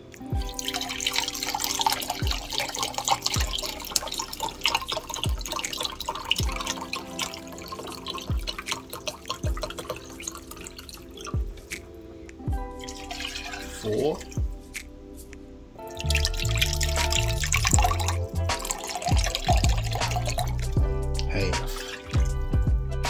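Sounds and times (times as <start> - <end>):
broth pouring into a pot: 0.3 - 11.7, 12.7 - 14.4, 15.8 - 22.4.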